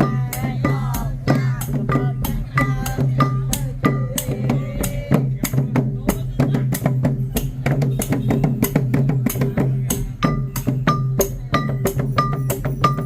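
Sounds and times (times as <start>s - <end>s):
drums: 0.0s - 13.0s.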